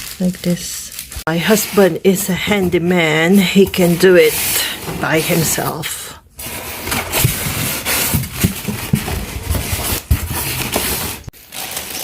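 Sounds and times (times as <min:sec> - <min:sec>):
packaging rustling: 0:00.0 - 0:05.8, 0:06.4 - 0:12.0.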